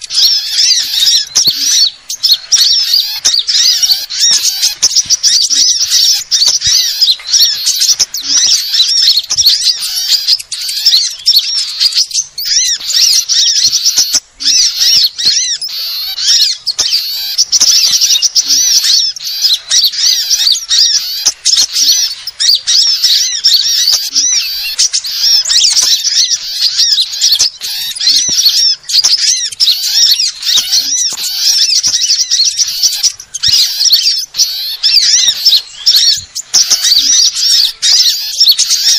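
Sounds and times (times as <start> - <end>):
small songbirds chirping and trilling: 0.0 - 38.9.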